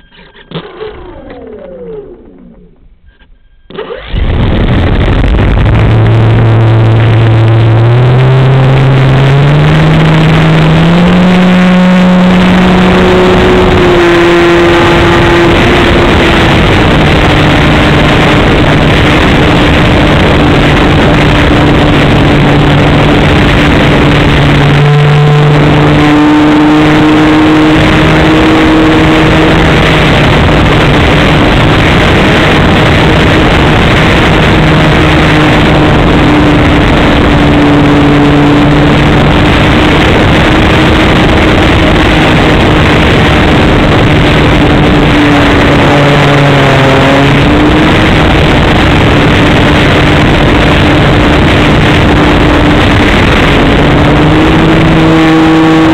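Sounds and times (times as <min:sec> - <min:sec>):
model plane propeller whine: 0:00.0 - 0:02.8, 0:03.7 - 0:55.9
wind rush: 0:04.0 - 0:55.9.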